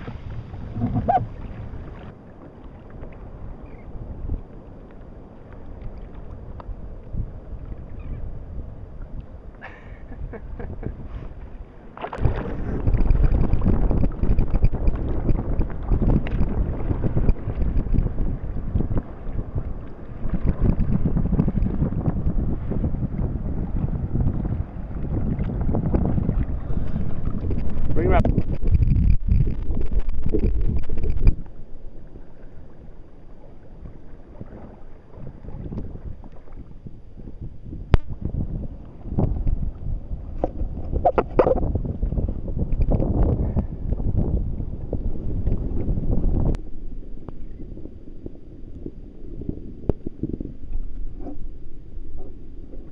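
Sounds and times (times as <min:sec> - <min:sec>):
wind buffeting microphone: 0:00.0 - 0:02.2, 0:02.8 - 0:52.9
water sloshing around hull: 0:00.0 - 0:52.9.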